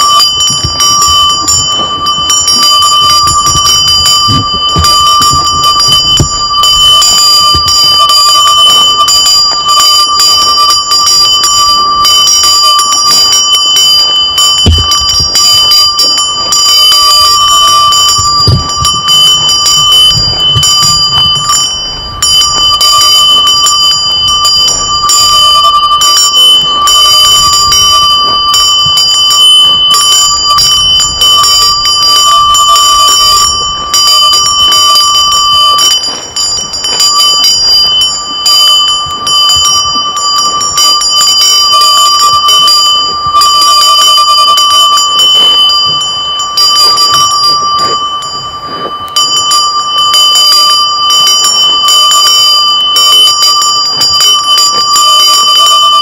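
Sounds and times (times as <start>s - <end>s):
cowbell ringing: 0.0s - 56.0s.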